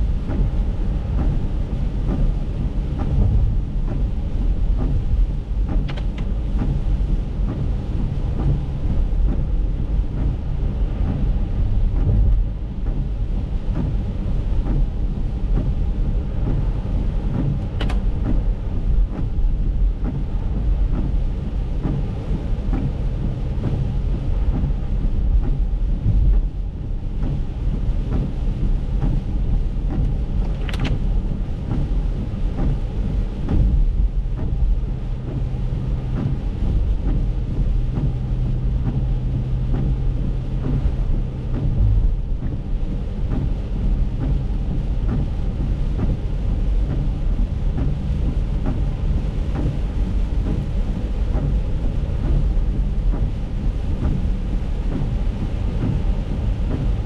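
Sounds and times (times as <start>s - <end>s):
rain ticking on windshield: 0.0s - 57.0s
steady low hum: 0.0s - 57.0s
tyres rumbling on wet road: 0.0s - 57.0s.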